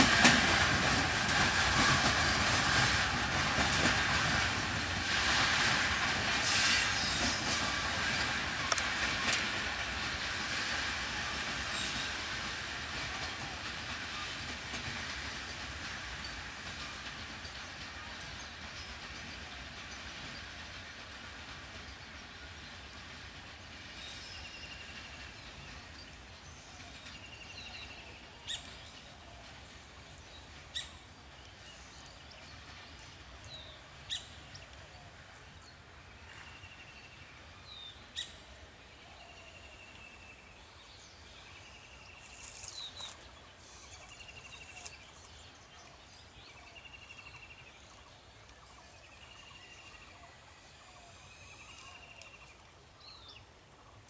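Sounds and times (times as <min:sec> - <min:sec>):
faint train rumble: 0:00.0 - 0:54.0.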